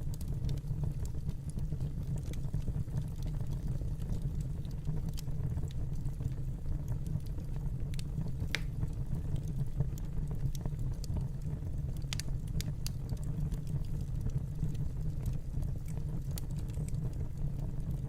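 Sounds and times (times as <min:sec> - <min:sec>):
fire popping and snapping: 0:00.0 - 0:18.0
low rumble of flames: 0:00.0 - 0:18.0.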